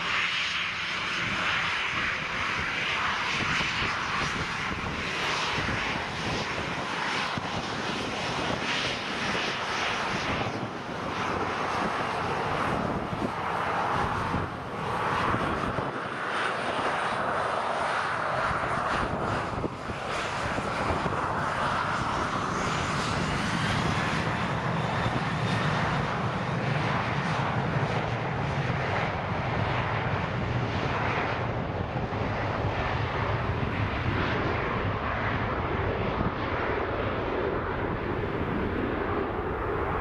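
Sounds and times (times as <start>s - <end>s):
jet engines whining: 0.0s - 40.0s.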